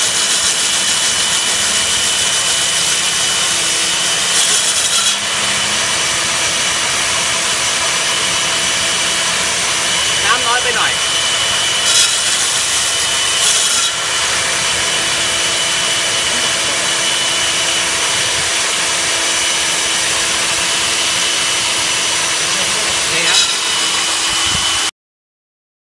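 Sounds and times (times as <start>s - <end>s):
core drill grinding concrete: 0.0s - 24.9s
motor whine: 0.0s - 24.9s.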